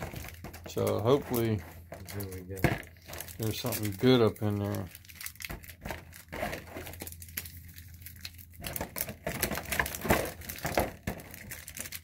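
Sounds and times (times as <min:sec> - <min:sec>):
foil packs crinkling: 0:00.0 - 0:12.0.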